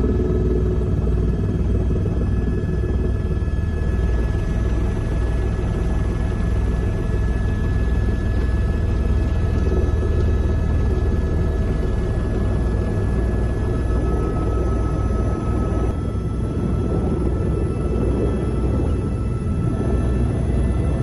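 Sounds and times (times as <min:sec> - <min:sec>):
helicopter drone from cabin: 0:00.0 - 0:21.0.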